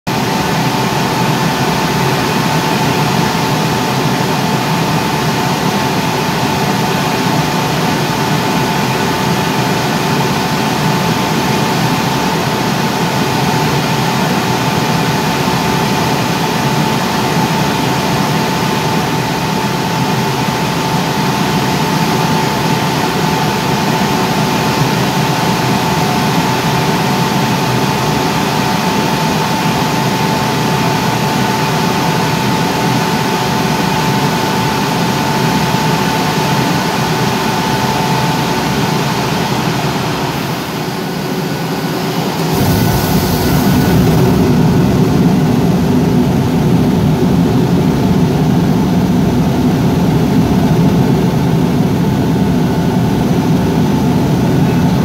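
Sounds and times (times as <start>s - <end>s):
blower fan rushing air: 0.1s - 55.0s
constant high whine: 0.1s - 55.0s.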